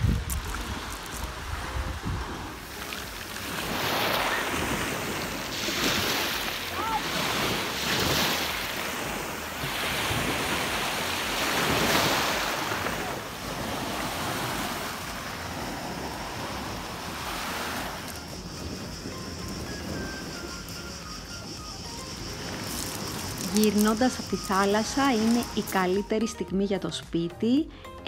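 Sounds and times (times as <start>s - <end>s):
wind buffeting microphone: 0.0s - 25.8s
sea waves washing ashore: 0.0s - 26.1s.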